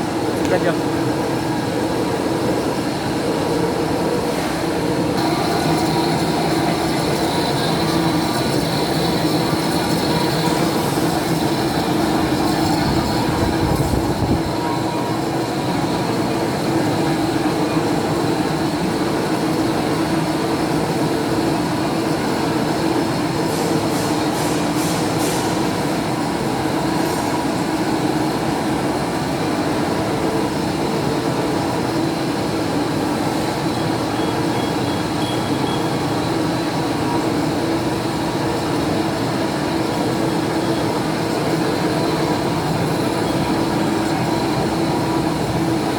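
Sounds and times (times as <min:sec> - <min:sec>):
machinery humming: 0:00.0 - 0:45.9.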